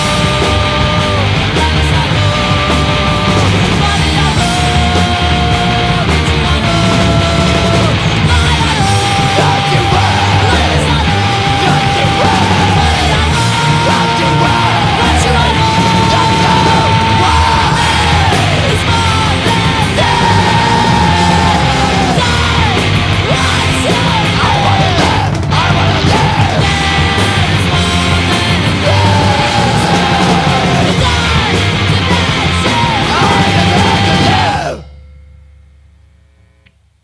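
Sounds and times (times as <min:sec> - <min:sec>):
person yelling vocals: 0:00.0 - 0:34.8
pounding drums: 0:00.0 - 0:34.8
distorted guitars: 0:00.0 - 0:35.2.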